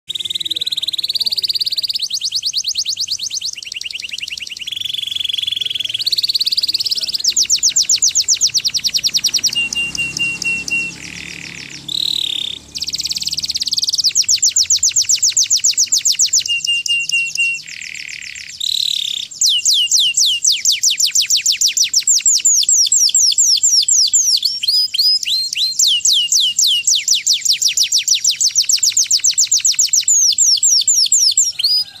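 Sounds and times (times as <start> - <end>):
canary singing trills: 0.1 - 32.0.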